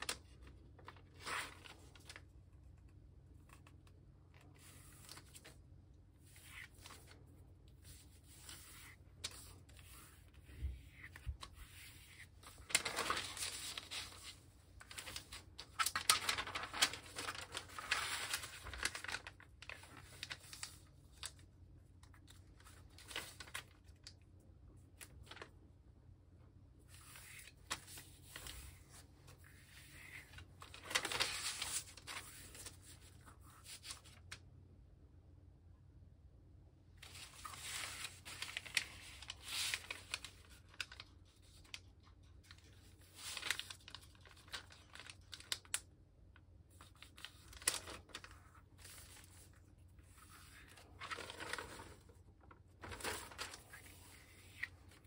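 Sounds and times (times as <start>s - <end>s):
paper rustling and crinkling: 0.0s - 25.6s, 26.8s - 34.4s, 37.0s - 45.9s, 46.7s - 55.0s.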